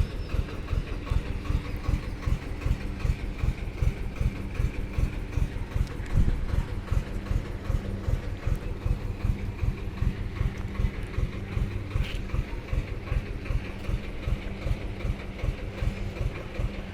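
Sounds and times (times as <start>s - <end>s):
tractor engine idling: 0.0s - 16.9s.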